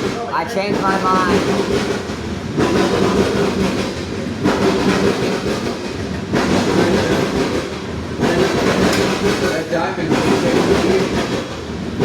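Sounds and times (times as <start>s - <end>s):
train cars rumbling on rails: 0.0s - 12.0s.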